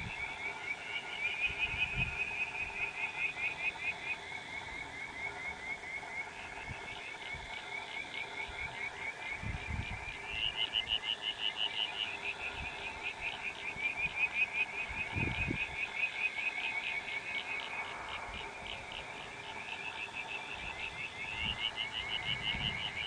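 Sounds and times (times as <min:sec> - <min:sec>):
frogs trilling in chorus: 0:00.0 - 0:23.0.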